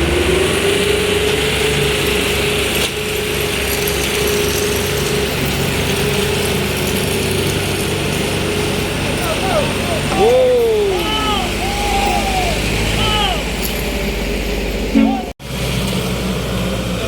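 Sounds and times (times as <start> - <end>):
low engine rumble: 0.0 - 17.0
truck gear whine: 0.0 - 17.0.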